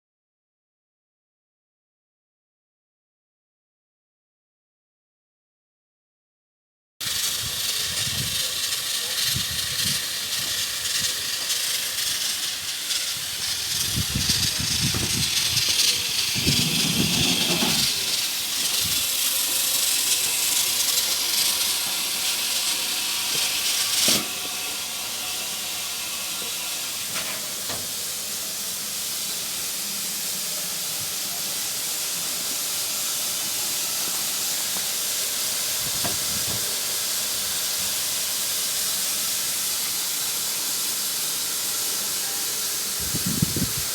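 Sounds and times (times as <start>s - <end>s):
steam locomotive hissing: 7.0s - 43.9s.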